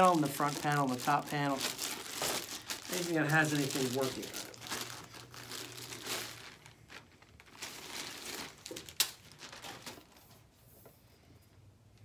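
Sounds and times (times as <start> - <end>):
plastic wrapping crinkling: 0.0 - 10.4.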